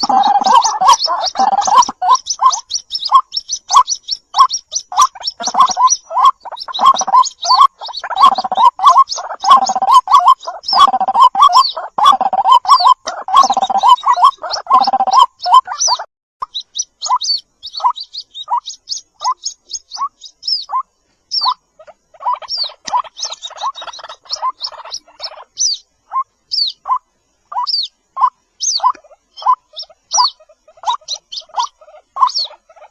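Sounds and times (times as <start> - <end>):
waterhen calling: 0.0 - 32.9.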